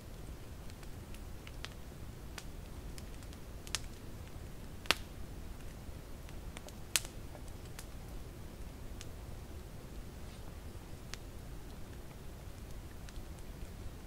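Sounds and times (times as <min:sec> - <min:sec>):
campfire crackling: 0:00.0 - 0:14.0
fire popping: 0:00.2 - 0:14.0.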